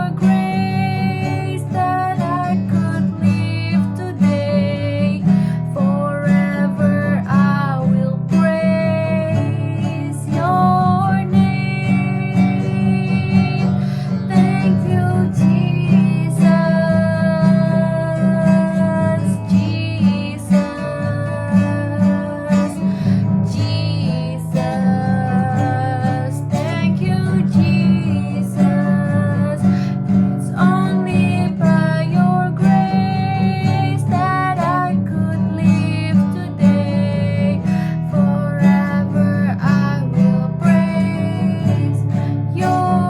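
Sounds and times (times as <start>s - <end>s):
strummed acoustic guitar: 0.0s - 43.0s.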